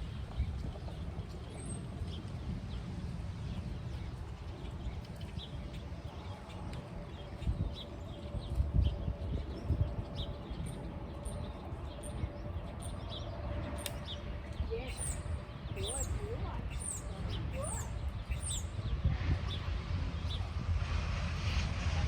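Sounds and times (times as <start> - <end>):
birds chirping: 0.0 - 20.8
steady low rumble: 0.0 - 22.0.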